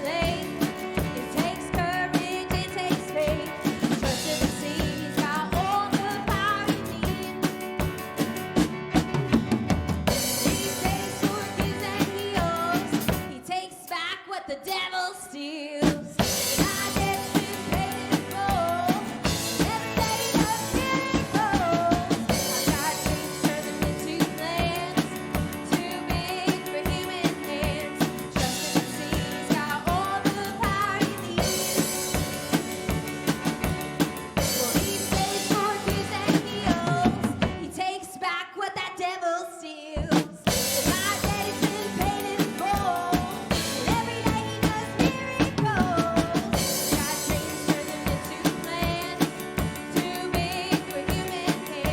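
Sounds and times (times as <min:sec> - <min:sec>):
person singing: 0:00.0 - 0:08.0, 0:10.1 - 0:32.8, 0:34.4 - 0:51.9
drum kit beat: 0:00.0 - 0:13.5, 0:15.8 - 0:37.9, 0:40.0 - 0:51.9
live band playing worship song: 0:00.0 - 0:13.6, 0:15.8 - 0:37.9, 0:40.1 - 0:51.9.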